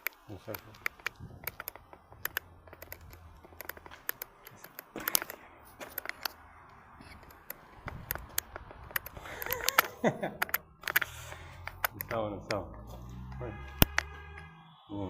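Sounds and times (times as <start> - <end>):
sharp clicks and taps: 0.0 - 14.5.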